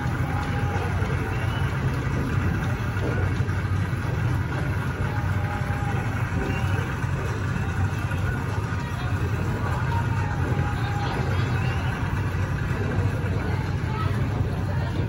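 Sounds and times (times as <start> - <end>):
indoor room hum: 0.0 - 15.0.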